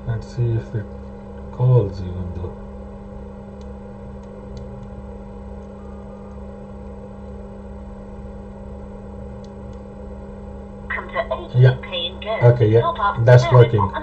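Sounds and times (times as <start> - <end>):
electrical hum: 0.0 - 14.0
low pulsing: 0.0 - 14.0.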